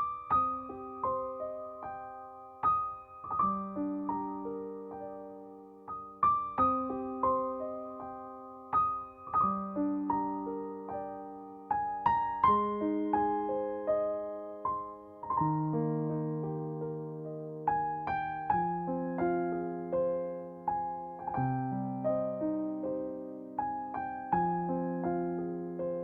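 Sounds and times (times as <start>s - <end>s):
soft solo piano music: 0.0s - 26.0s.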